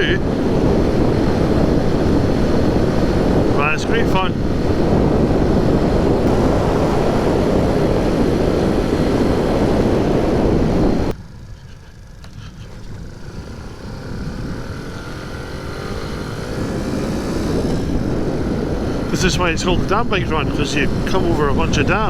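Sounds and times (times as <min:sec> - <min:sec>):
small motorcycle engine accelerating: 0:00.0 - 0:22.0
wind rush on microphone: 0:00.0 - 0:22.0.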